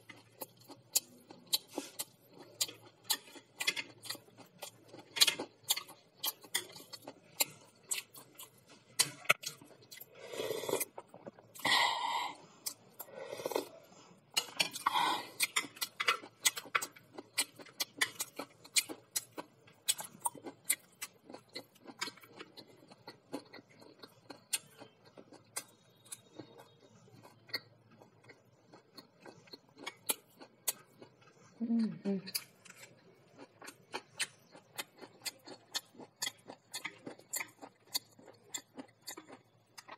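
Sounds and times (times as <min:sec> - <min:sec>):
person chewing: 0:00.0 - 0:31.6, 0:32.3 - 0:39.9.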